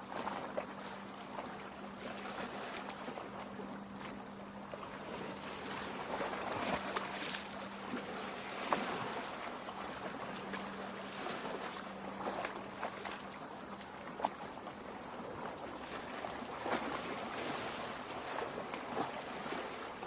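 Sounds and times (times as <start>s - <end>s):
waves lapping on rocky shore: 0.0s - 20.0s.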